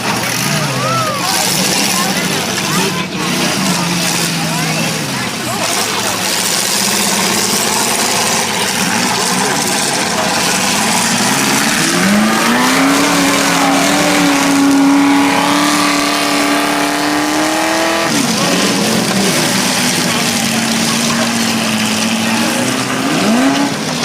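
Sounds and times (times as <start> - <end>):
car engine revving: 0.0 - 24.0
car engines din: 0.0 - 24.0.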